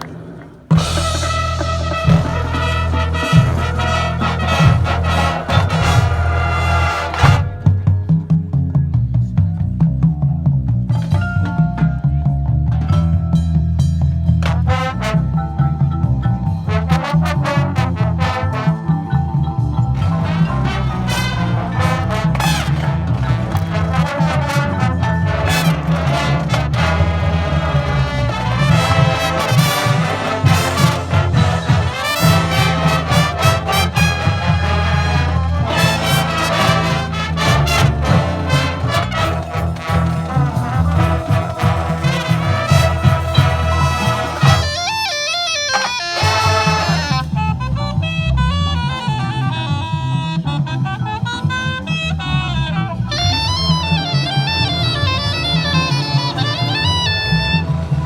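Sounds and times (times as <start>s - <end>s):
marching band playing: 0.0s - 8.8s, 11.0s - 58.0s
brass melody: 0.7s - 8.1s, 14.4s - 58.0s.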